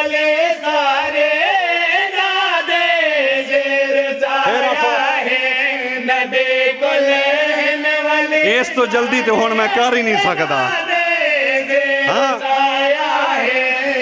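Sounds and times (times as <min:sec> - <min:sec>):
man chanting verse: 0:00.0 - 0:14.0.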